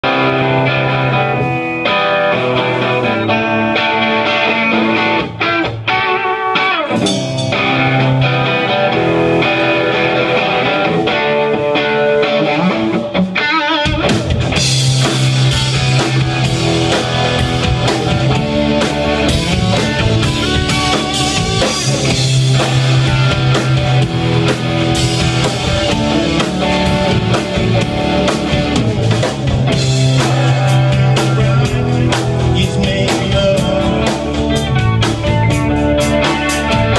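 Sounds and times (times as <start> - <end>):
bass guitar: 0.0 - 36.9
drum kit beat: 0.0 - 36.9
electric guitar: 0.0 - 36.9.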